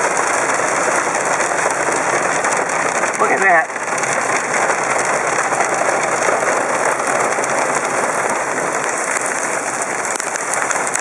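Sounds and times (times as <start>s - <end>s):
hail pelting a truck: 0.0s - 11.0s.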